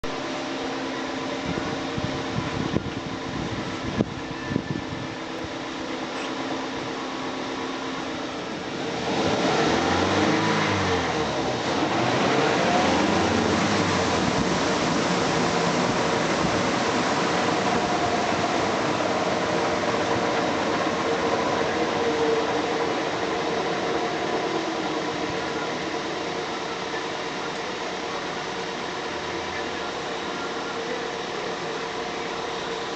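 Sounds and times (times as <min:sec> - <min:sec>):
car engine running: 0:05.3 - 0:32.9.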